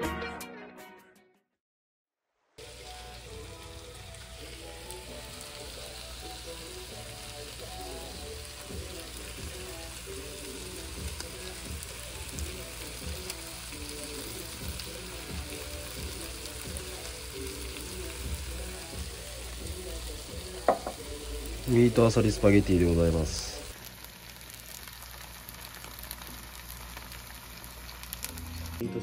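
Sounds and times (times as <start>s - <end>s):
background music: 0.0s - 1.4s, 2.6s - 23.8s, 28.3s - 29.0s
food sizzling in a frying pan: 2.6s - 28.8s.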